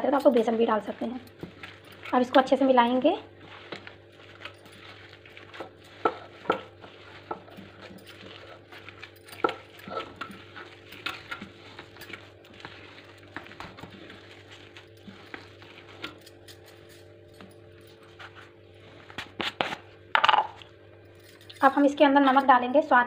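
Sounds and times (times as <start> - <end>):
batter stirred in a bowl: 0.0 - 22.9
steady low hum: 0.0 - 23.0.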